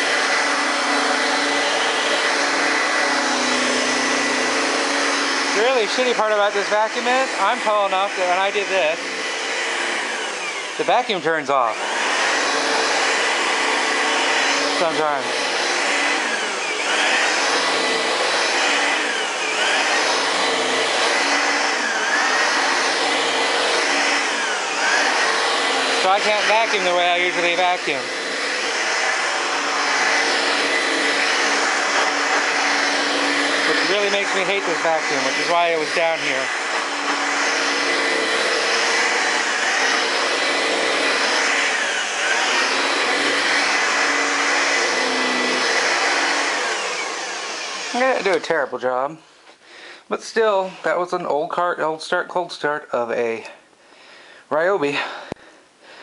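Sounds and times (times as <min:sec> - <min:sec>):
vacuum cleaner running on carpet: 0:00.0 - 0:49.1, 0:49.9 - 0:51.9.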